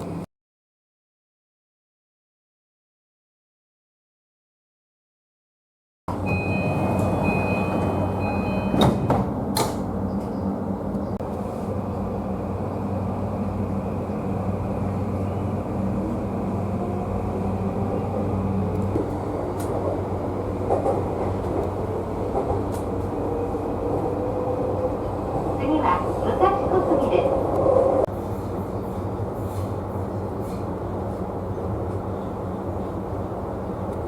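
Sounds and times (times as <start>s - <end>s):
train rumble and motor hum: 0.0s - 0.2s, 6.1s - 34.0s.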